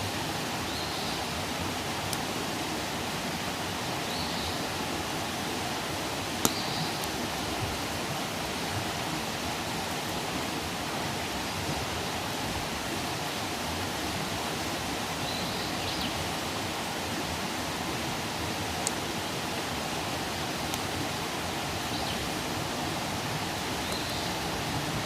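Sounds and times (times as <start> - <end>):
campfire burning with rushing hiss: 0.0 - 25.0.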